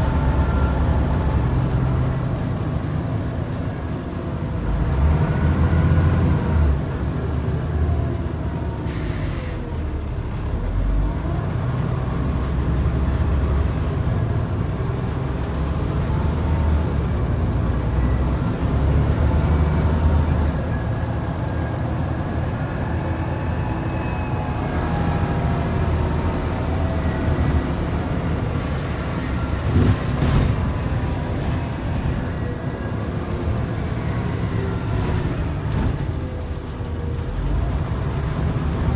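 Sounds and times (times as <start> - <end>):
bus diesel engine: 0.0 - 38.9.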